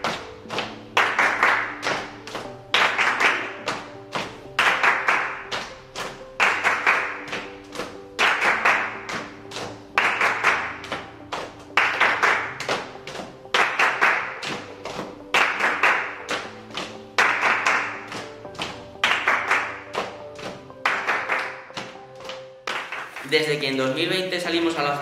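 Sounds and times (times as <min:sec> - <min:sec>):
group hand clapping: 0:00.0 - 0:23.5
music with steady beat: 0:00.0 - 0:25.0.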